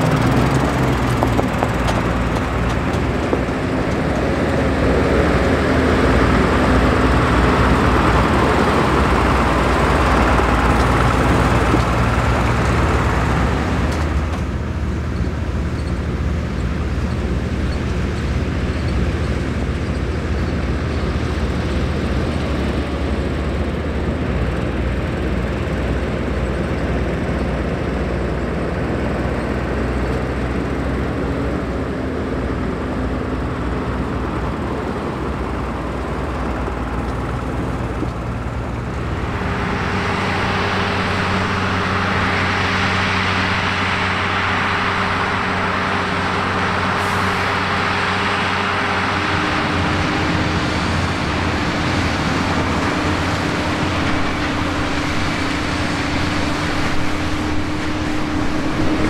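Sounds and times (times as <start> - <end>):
tractor engines running: 0.0 - 59.0.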